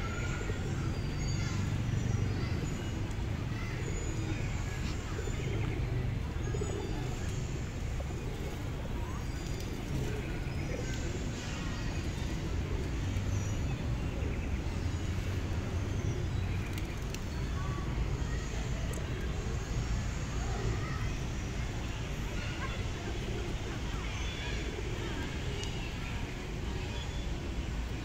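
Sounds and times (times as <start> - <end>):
city traffic rumble: 0.0 - 28.0
faint indistinct voices: 0.0 - 28.0.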